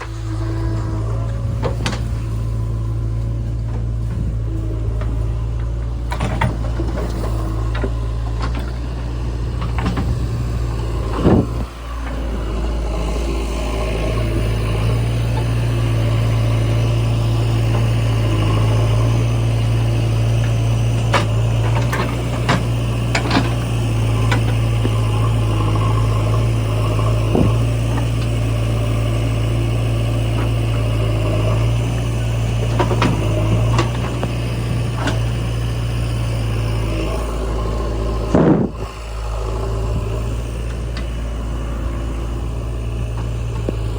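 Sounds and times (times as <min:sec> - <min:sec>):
diesel engine droning: 0:00.0 - 0:43.9.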